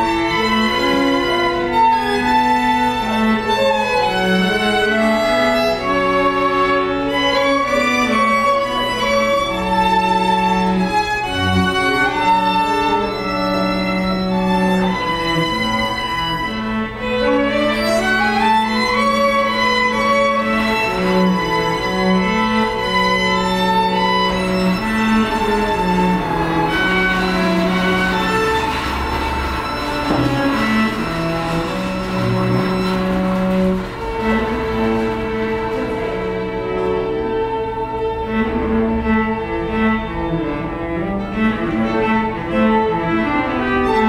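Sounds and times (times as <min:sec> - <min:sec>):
string quartet playing: 0:00.0 - 0:44.0.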